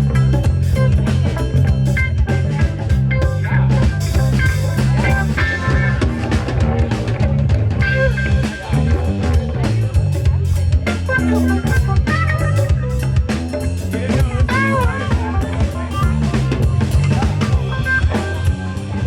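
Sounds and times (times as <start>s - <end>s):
bass guitar: 0.0s - 19.0s
drum kit: 0.0s - 19.0s
electric guitar: 0.0s - 19.0s.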